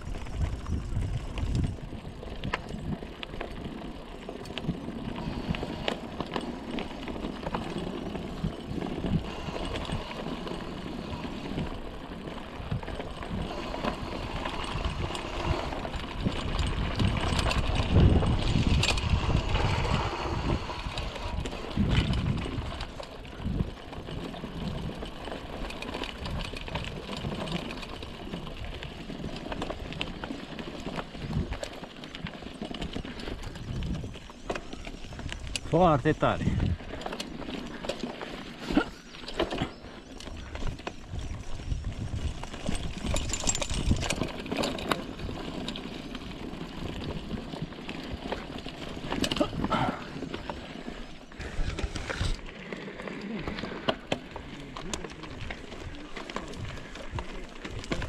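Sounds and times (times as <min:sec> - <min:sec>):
bike rattling over bumps: 0:00.0 - 0:58.0
bike tyres rumbling on trail: 0:00.0 - 0:58.0.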